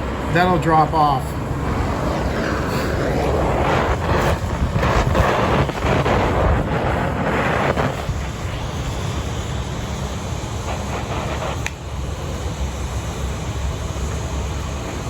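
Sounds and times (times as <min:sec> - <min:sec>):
cutting torch hissing and crackling: 0:00.0 - 0:15.0.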